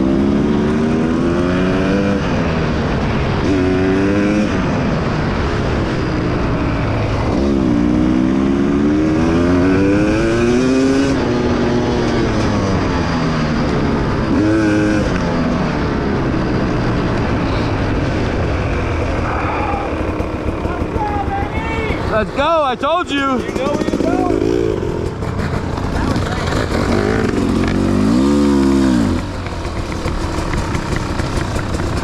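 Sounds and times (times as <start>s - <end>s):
dirt bike engine revving: 0.0s - 6.4s, 7.0s - 16.0s, 18.9s - 32.0s.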